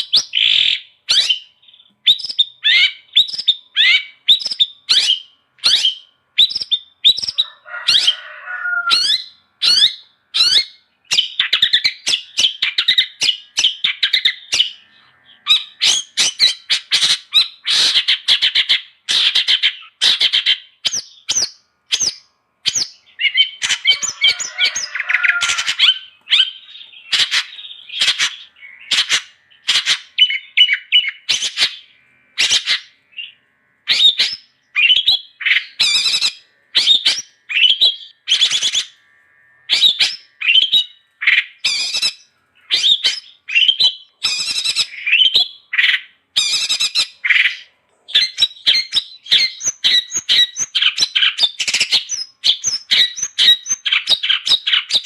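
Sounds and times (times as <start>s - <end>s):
bird chattering song: 0.0s - 8.2s, 8.8s - 39.0s, 39.7s - 55.0s.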